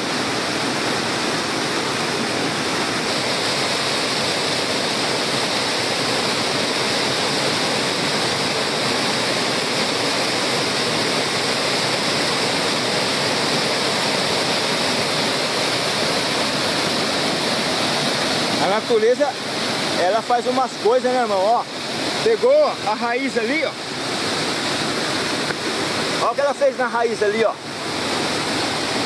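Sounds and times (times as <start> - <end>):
waterfall rushing over rocks: 0.0 - 29.0.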